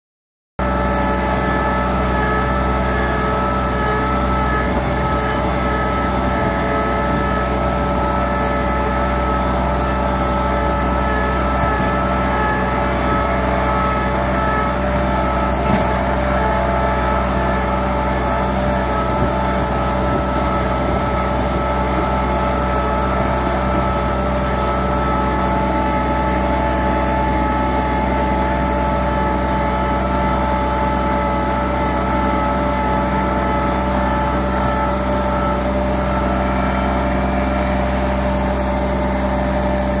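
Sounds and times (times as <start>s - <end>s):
steady whine: 0.6s - 40.0s
tractor engine running: 0.6s - 40.0s.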